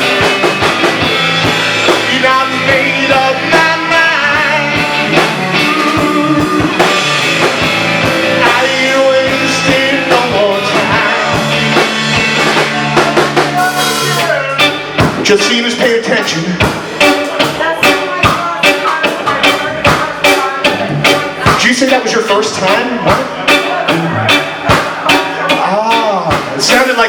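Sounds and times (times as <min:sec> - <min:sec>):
bass guitar: 0:00.0 - 0:27.0
drum kit: 0:00.0 - 0:27.0
electric guitar lines: 0:00.0 - 0:27.0.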